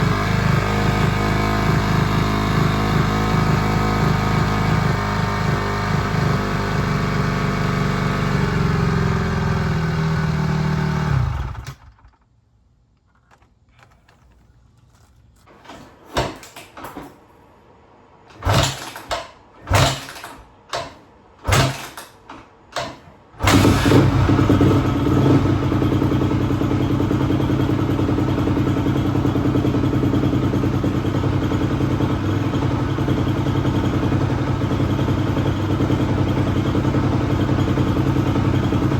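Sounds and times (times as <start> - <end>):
dirt bike engine running: 0.0 - 12.1, 18.4 - 22.1, 22.8 - 38.9.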